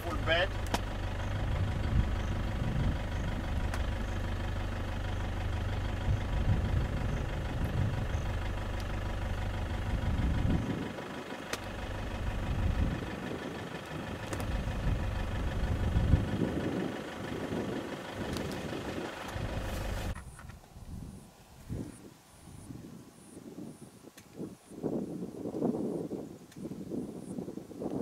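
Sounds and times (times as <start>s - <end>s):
vehicle engine rumbling at low revs: 0.0s - 24.0s.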